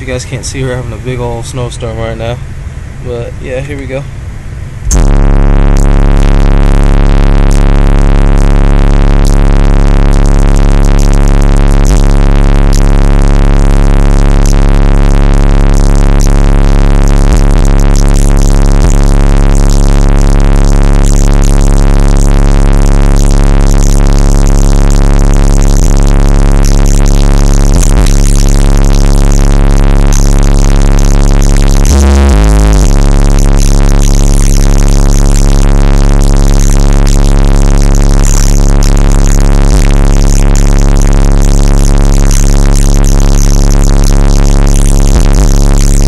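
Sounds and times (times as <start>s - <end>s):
rap song deep bass through subwoofer: 0.0s - 46.0s.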